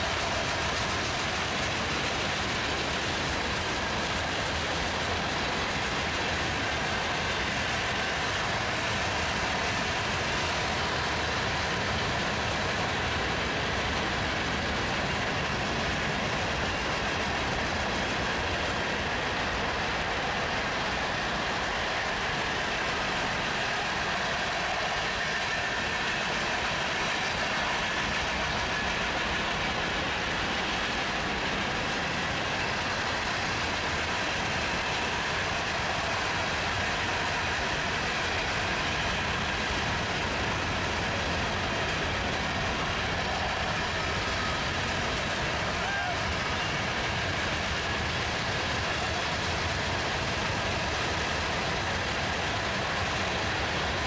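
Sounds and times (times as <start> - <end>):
freight train wheels on rail: 0.0 - 54.0.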